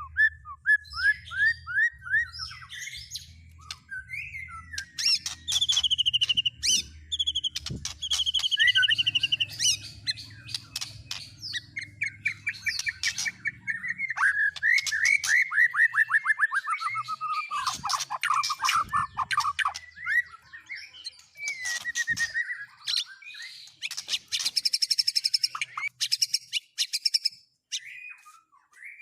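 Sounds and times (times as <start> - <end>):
songbird singing trills: 0.0 - 29.0.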